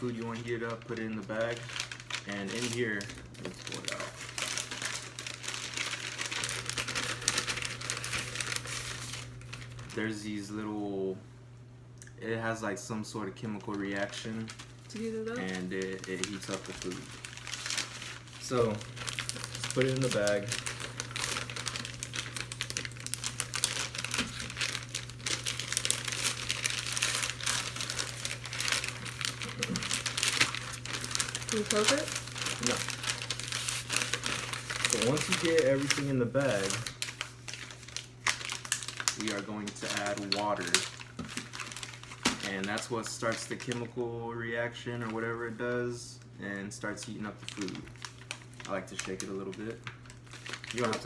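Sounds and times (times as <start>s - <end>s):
plastic packaging crinkling: 0.0s - 10.5s, 13.2s - 45.7s, 46.8s - 51.0s
low steady hum: 0.0s - 51.0s.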